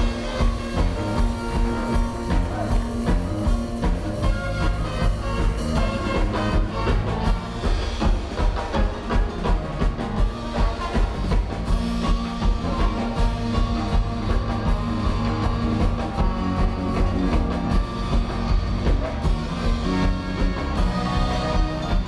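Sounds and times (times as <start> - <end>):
rock music with drums and guitar: 0.0 - 22.0.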